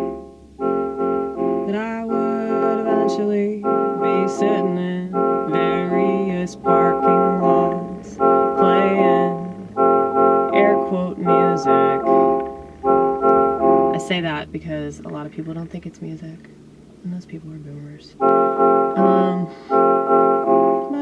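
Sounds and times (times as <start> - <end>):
organ-like keyboard chords: 0.0 - 21.0
wavering sliding lead melody: 0.0 - 21.0.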